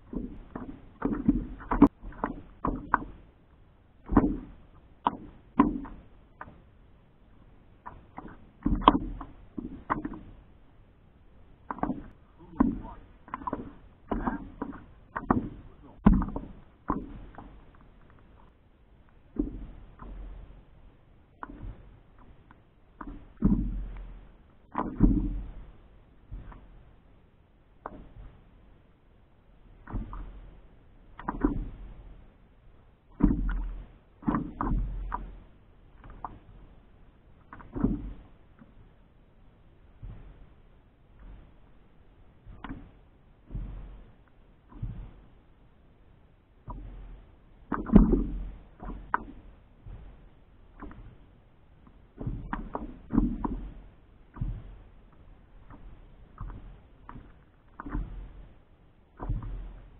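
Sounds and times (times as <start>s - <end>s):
waves slapping against paddleboard: 0.0s - 3.3s, 4.0s - 10.7s, 11.3s - 26.8s, 29.7s - 32.2s, 33.1s - 45.8s, 46.6s - 59.9s.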